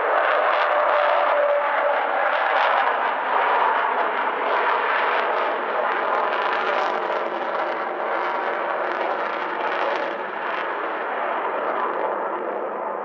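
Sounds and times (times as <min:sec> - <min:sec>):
jet aircraft rushing overhead: 0:00.0 - 0:13.0.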